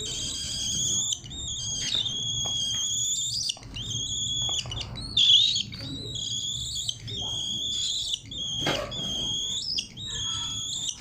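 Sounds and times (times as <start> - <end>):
cockatiel calling shrilly: 0.0 - 11.0.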